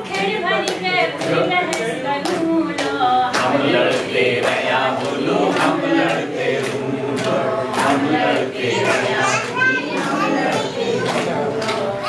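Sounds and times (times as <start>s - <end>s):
group singing in unison: 0.0s - 12.0s
hand claps: 0.0s - 12.0s.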